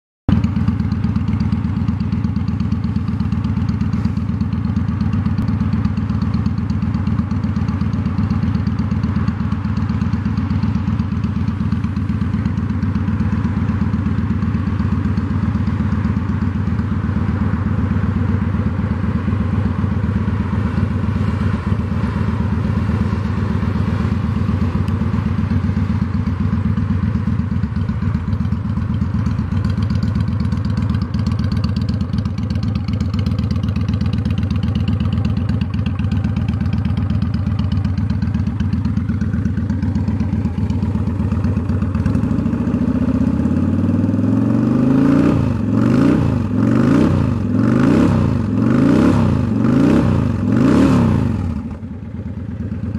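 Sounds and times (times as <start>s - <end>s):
motorcycle engine idling: 0.3s - 52.9s
motorcycle engine revving: 0.3s - 52.9s.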